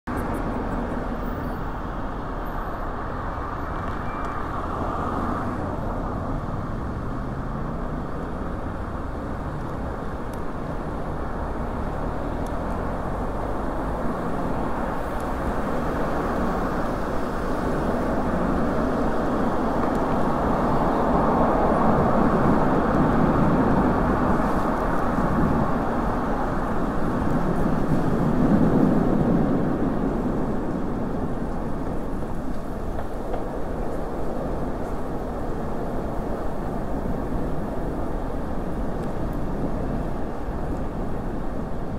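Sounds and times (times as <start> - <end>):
car traffic: 0.0 - 41.9
bicycle road noise on wet street: 0.1 - 41.9.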